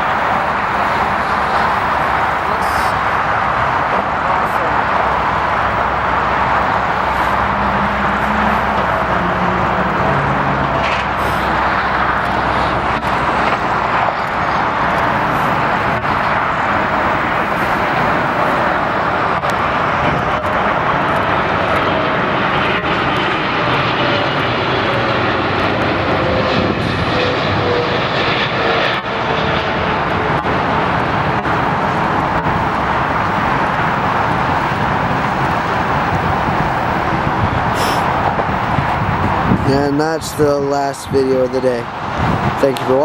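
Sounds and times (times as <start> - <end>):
airliner engines passing: 0.0 - 43.0.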